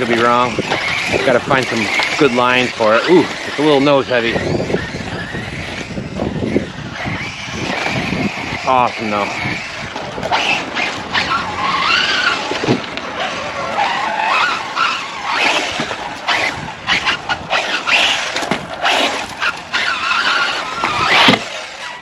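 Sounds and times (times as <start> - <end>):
rc car motor whine: 0.0 - 22.0
tyres scrabbling on dirt: 0.0 - 22.0.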